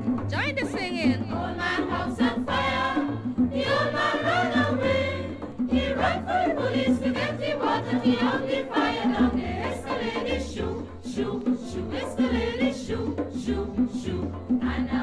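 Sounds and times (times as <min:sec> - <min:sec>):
song with several singing voices: 0:00.9 - 0:15.0.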